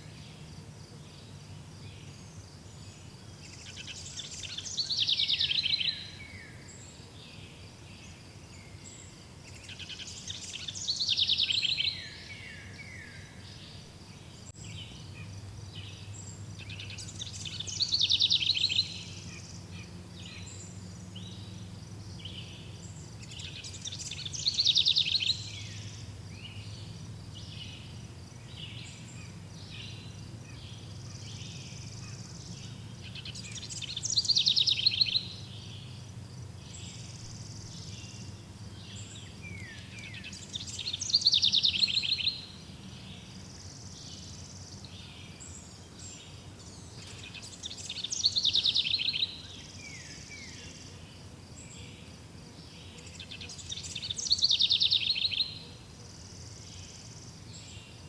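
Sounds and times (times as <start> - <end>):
high chirping of insects and birds: 0.0 - 58.0
songbird trill: 0.0 - 58.0.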